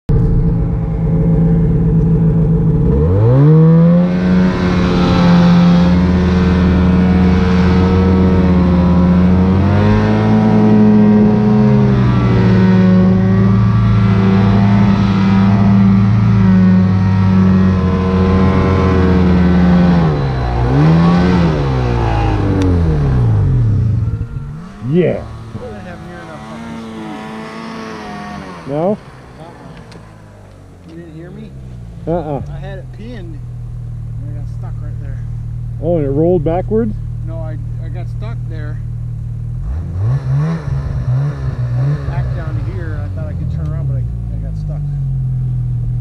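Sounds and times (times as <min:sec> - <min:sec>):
snowmobile engine revving: 0:00.3 - 0:38.9, 0:39.5 - 0:45.2.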